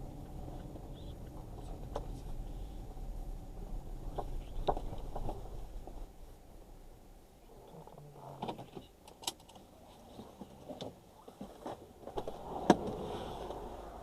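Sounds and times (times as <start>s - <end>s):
road rumble: 0.0s - 14.0s.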